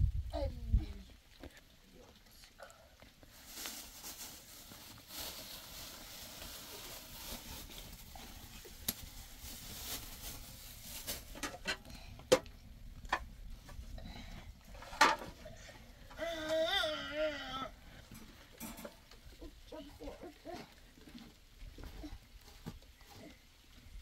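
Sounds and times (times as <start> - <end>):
soft rustling and hiss: 0.0 - 24.0.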